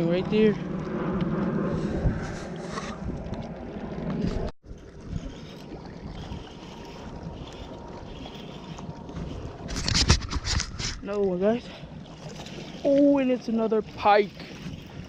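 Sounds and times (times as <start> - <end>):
boat and water noise: 0.0 - 15.0
wind rumbling on microphone: 0.0 - 15.0.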